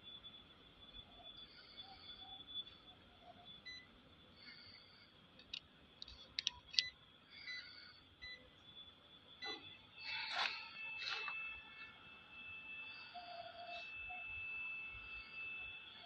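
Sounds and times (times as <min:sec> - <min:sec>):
faint steady high tone: 0:00.0 - 0:16.0.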